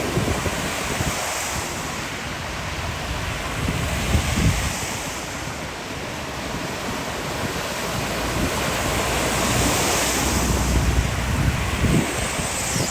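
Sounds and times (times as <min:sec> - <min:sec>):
heavy rain: 0:00.0 - 0:12.9
strong storm wind: 0:00.0 - 0:12.9
wind buffeting microphone: 0:00.0 - 0:12.9.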